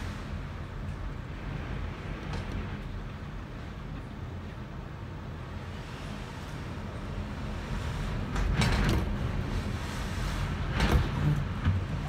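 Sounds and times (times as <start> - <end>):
wind and rain rushing: 0.0 - 12.0.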